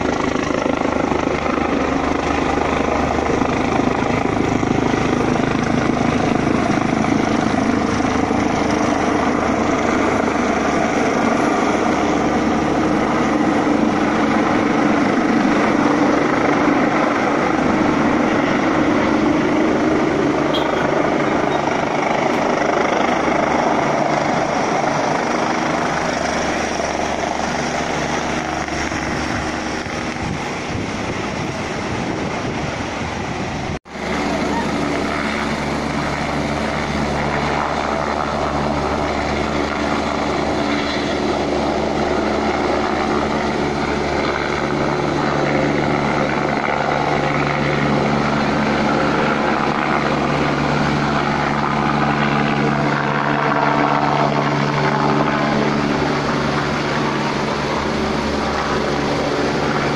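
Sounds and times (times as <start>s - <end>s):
helicopter rotor blades chopping: 0.0s - 59.9s.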